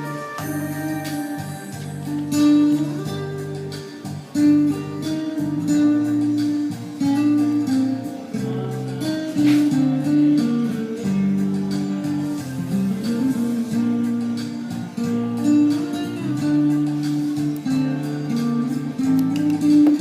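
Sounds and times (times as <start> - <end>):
guitar music: 0.0 - 20.0.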